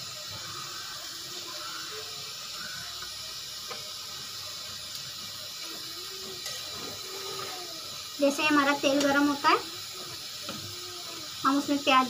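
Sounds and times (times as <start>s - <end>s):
gas stove hissing: 0.0s - 12.0s.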